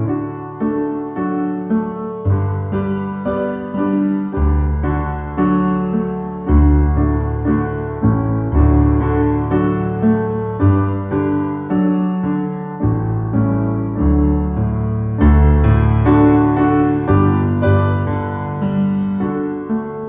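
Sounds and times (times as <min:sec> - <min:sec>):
slow solo piano: 0:00.0 - 0:20.0.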